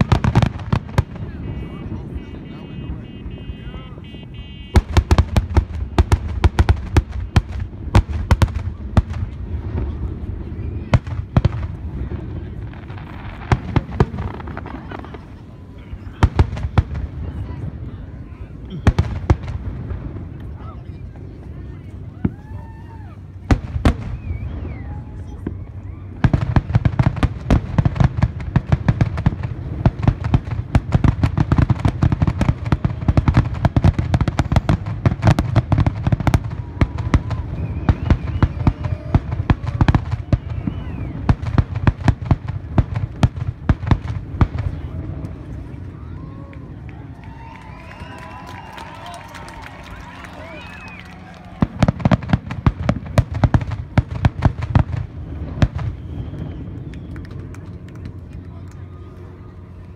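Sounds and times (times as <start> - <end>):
fireworks bursting: 0.0 - 17.9, 18.5 - 45.9, 47.3 - 57.9.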